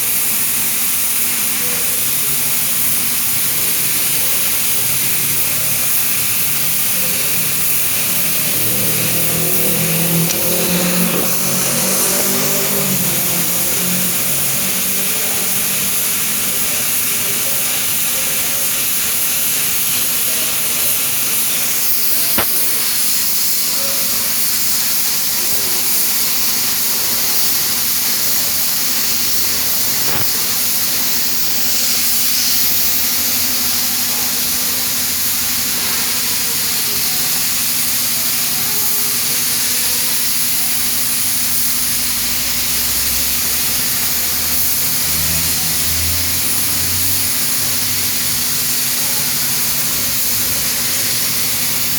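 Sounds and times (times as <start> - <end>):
spray gun hissing: 0.0 - 51.9.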